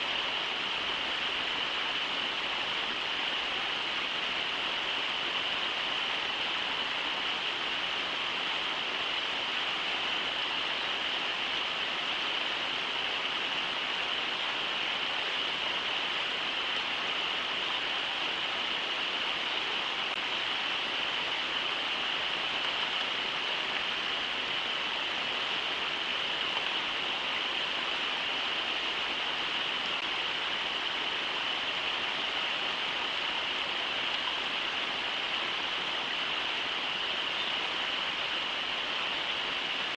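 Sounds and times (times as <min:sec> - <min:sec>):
river water rushing over riffles: 0:00.0 - 0:39.9.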